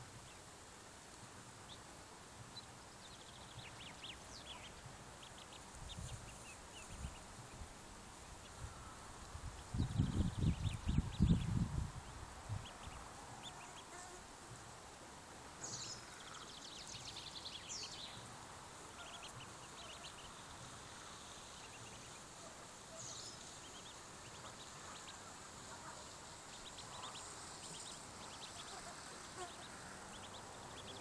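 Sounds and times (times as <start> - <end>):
outdoor hiss: 0.0 - 31.0
ducklings peeping: 1.6 - 14.0, 15.6 - 22.7, 23.3 - 31.0.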